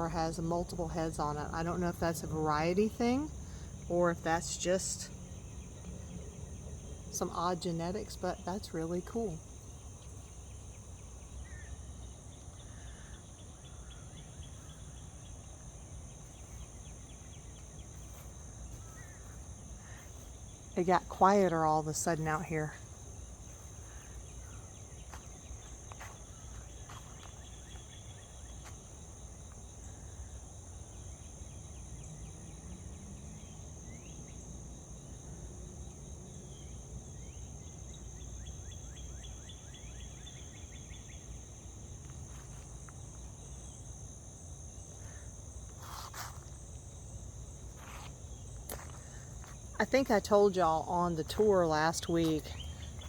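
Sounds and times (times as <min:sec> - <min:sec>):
insects chorus: 0:00.0 - 0:53.0.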